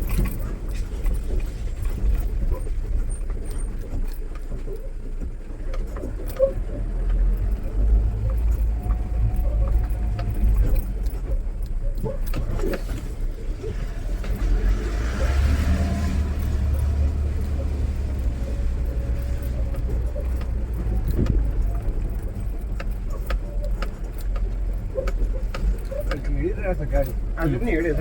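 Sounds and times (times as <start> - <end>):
diesel engine rumbling at low revs: 0.0 - 28.0
vehicle body rattling and knocking: 0.0 - 28.0.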